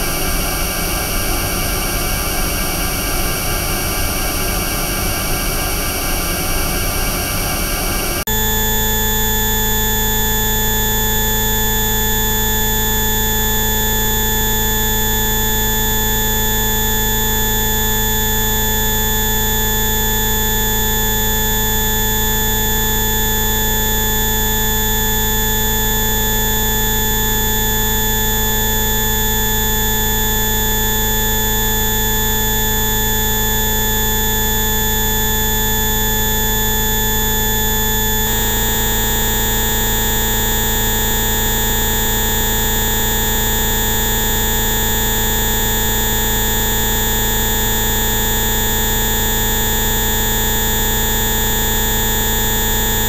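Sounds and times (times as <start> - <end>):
electronic steady tones: 8.3 - 53.0.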